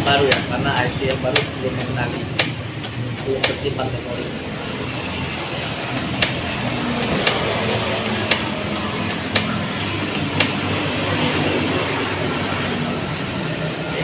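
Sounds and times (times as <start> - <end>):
printer clicking: 0.0 - 11.8
inkjet printer whirring: 0.0 - 14.0.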